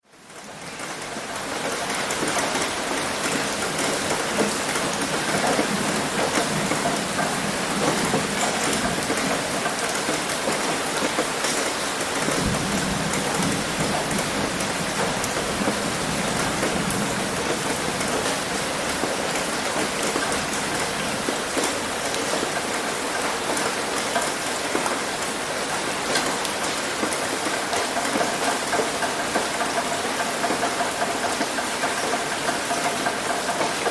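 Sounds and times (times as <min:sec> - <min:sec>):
heavy rain on a roof: 0:00.0 - 0:33.9.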